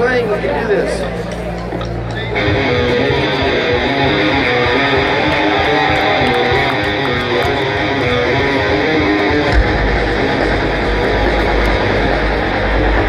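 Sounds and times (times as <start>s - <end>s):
electric guitar playing punk rock: 0.0s - 13.0s
deep bass: 1.2s - 13.0s.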